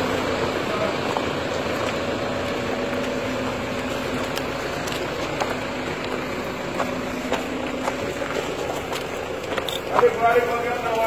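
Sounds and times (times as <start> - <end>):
street noise: 0.0 - 11.0
vehicle engine running: 0.0 - 11.0.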